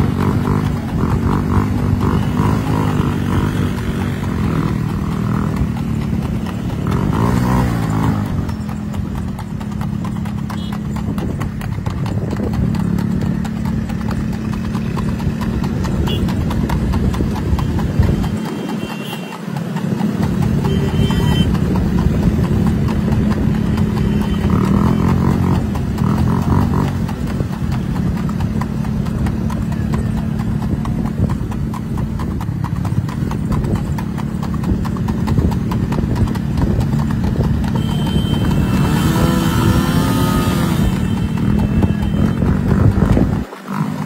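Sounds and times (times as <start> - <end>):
hooves trotting on asphalt: 0.0 - 44.0
motorcycle engine running: 0.0 - 44.0.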